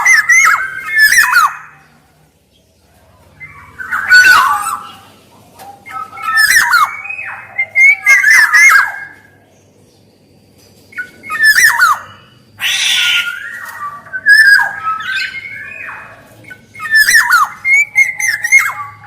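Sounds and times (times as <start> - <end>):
oriole calling: 0.0 - 9.5, 10.9 - 19.0.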